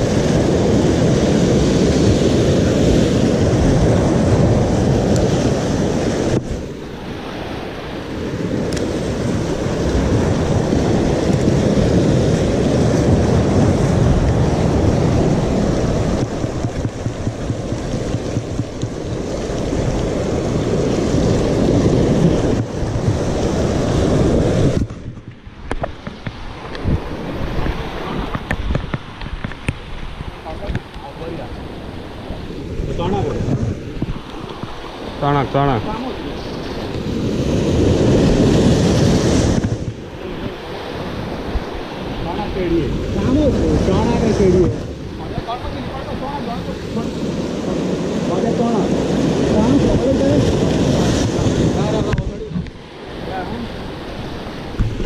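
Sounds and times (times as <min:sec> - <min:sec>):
surf breaking over rocks: 0:00.0 - 0:55.0
wind buffeting microphone: 0:00.0 - 0:55.0.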